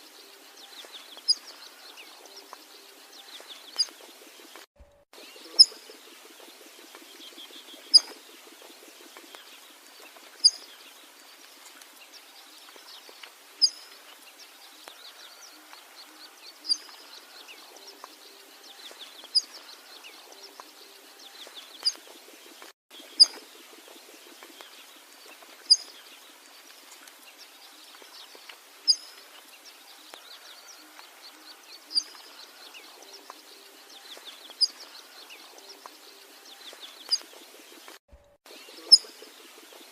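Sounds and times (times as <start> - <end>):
faint bird chirping: 0.0 - 39.9.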